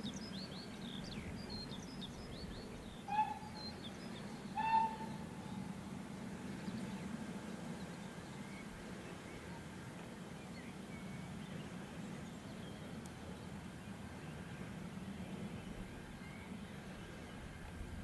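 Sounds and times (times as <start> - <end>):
distant steam locomotive rumble: 0.0 - 18.0.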